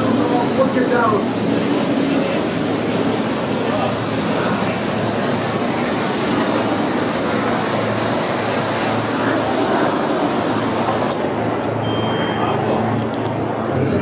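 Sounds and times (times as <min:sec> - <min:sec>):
high rotor whine: 0:00.0 - 0:11.6.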